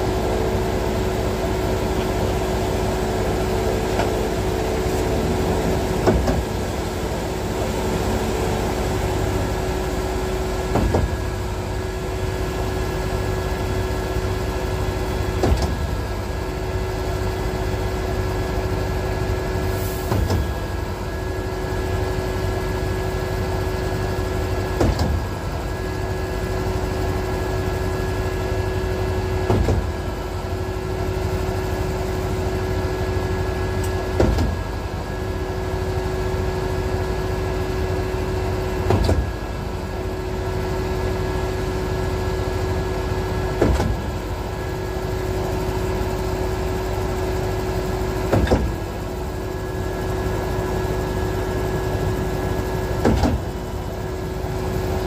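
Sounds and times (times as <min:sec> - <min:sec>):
concrete pump running: 0:00.0 - 0:55.0.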